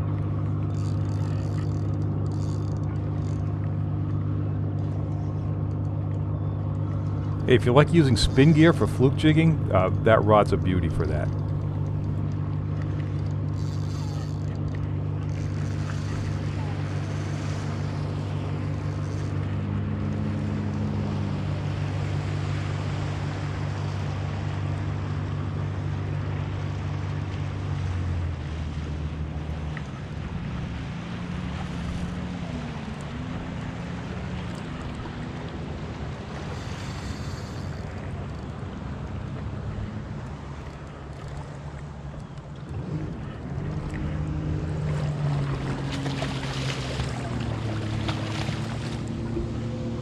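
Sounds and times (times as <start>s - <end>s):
boat engine running: 0.0s - 50.0s
water noise: 0.0s - 50.0s
wind: 0.0s - 50.0s.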